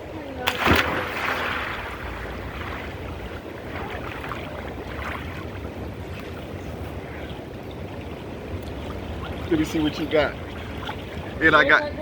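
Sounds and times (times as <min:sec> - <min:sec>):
pool water splashing: 0:00.1 - 0:12.0.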